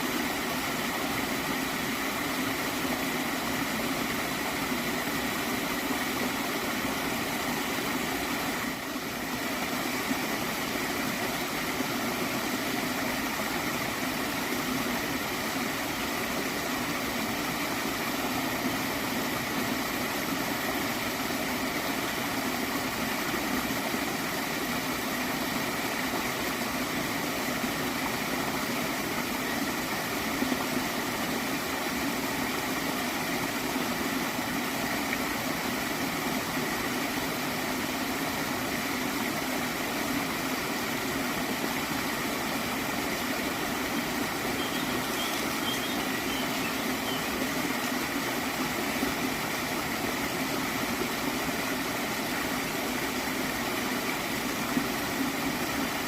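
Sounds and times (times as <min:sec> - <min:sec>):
stream water flowing and gurgling: 0:00.0 - 0:56.0.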